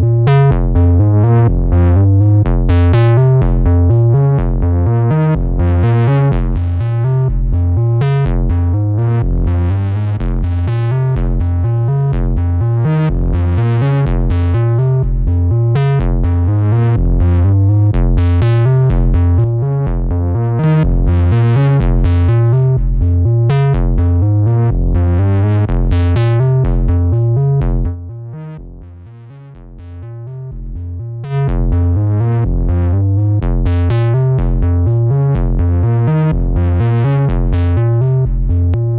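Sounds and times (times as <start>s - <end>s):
synth bass line: 0.0s - 38.9s.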